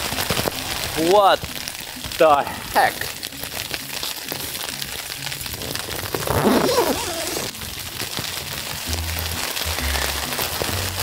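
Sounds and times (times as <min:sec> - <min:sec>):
hail and rain on a tent: 0:00.0 - 0:11.0.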